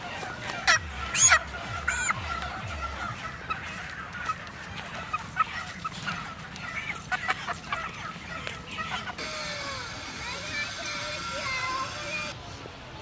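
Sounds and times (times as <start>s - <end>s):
chickens clucking: 0.0s - 12.4s.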